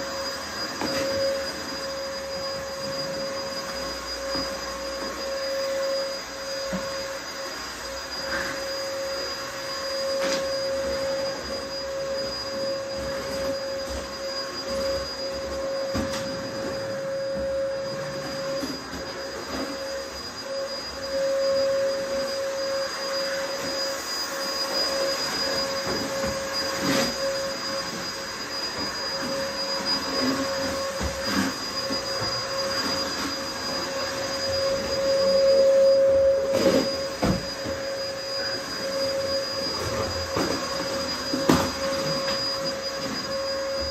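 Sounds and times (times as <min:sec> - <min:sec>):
vacuum cleaner motor: 0:00.0 - 0:43.9.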